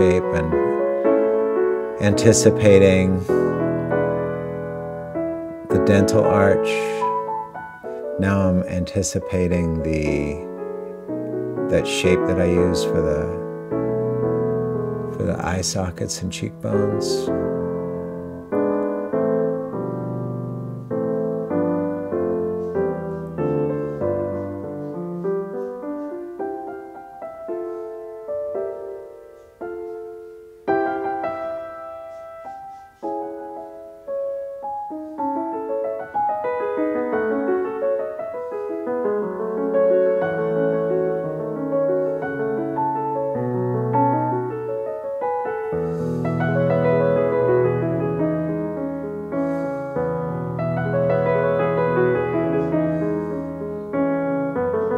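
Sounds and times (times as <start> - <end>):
piano music: 0.0 - 54.9.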